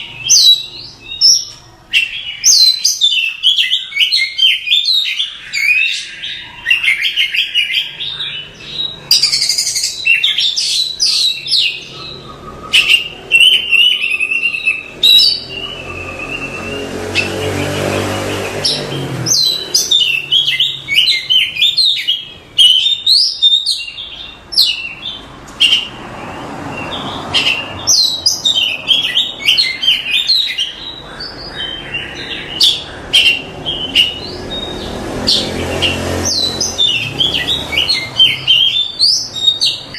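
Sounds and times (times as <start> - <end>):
bird singing chirps and whistles: 0.0 - 26.0, 26.7 - 39.9.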